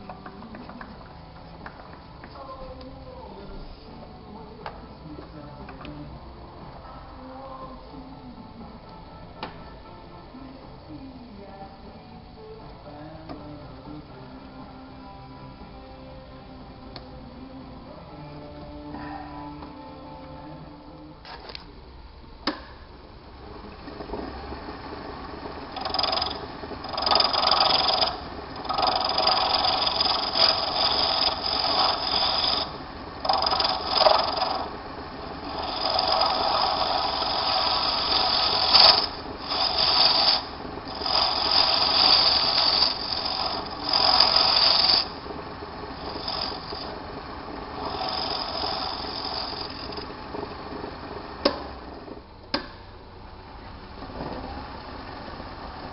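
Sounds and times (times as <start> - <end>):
lathe running: 0.0 - 55.9.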